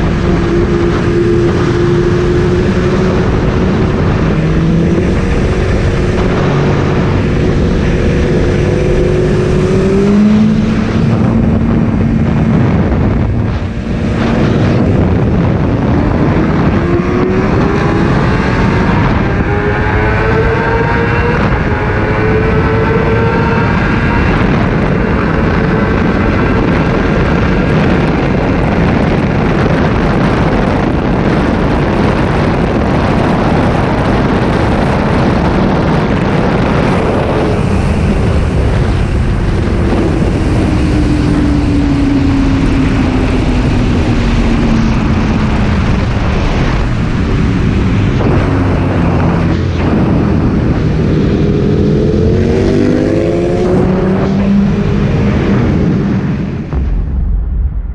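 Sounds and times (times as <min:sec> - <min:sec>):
motorcycle engine: 0:00.0 - 0:57.1
wind rush: 0:00.0 - 0:57.9.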